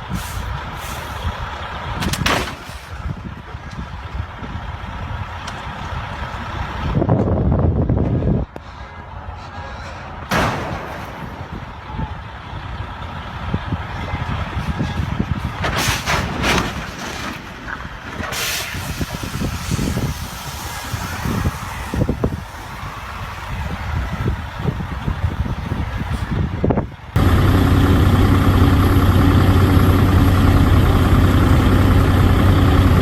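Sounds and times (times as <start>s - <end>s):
traffic rumble: 0.0s - 33.0s.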